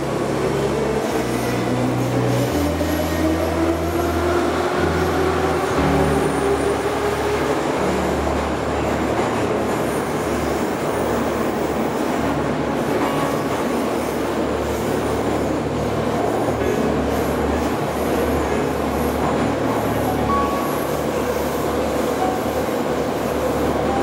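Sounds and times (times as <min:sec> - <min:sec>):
train wheels on rail: 0:00.0 - 0:24.0.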